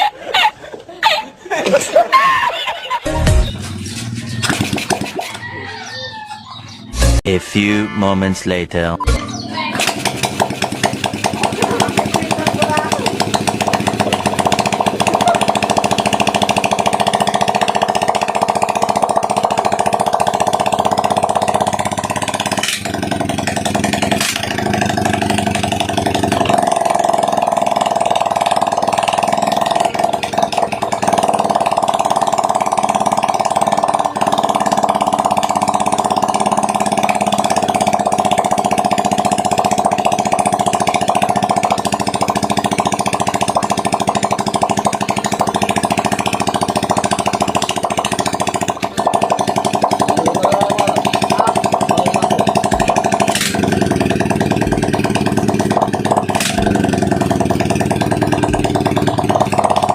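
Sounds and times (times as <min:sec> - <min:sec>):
motorcycle engine running: 0:09.3 - 0:59.9.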